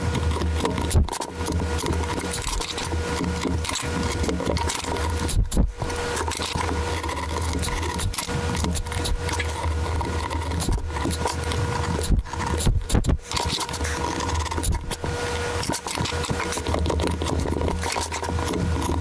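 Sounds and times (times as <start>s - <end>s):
chisel scraping wood: 0.0s - 19.0s.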